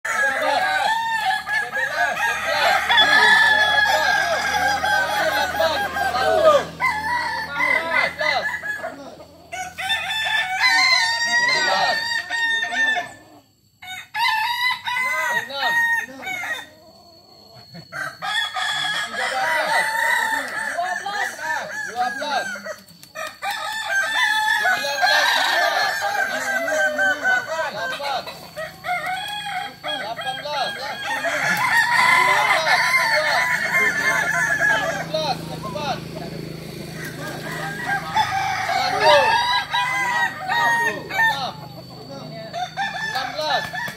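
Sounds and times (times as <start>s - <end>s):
roosters crowing: 0.0s - 43.9s.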